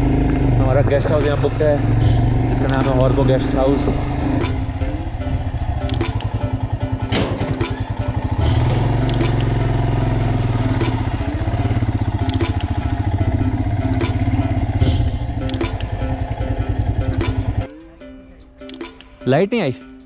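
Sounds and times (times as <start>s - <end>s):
motorcycle engine thumping: 0.0s - 17.7s.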